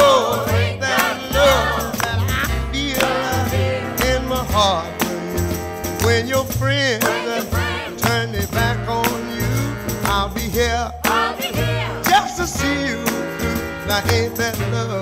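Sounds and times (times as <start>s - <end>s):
soul song with singing: 0.0s - 15.0s.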